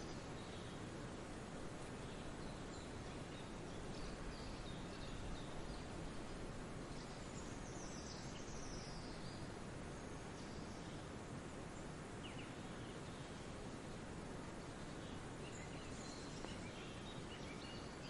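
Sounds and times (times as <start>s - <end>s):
songbird chirps: 0.0s - 18.0s.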